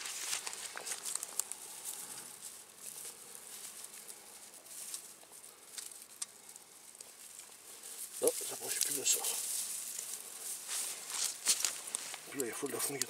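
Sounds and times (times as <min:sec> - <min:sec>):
dry grass and twigs rustling: 0:00.0 - 0:13.0.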